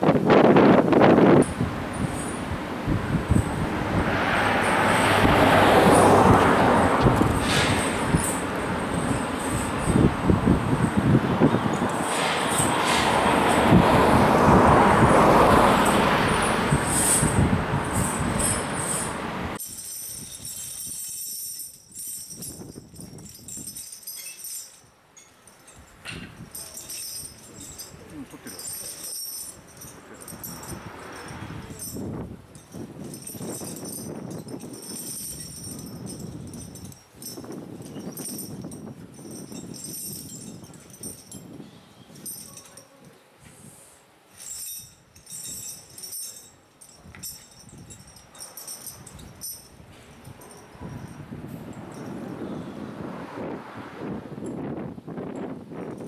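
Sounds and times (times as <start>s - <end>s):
steel chains clinking: 1.3s - 14.5s, 15.2s - 43.2s, 44.2s - 52.7s.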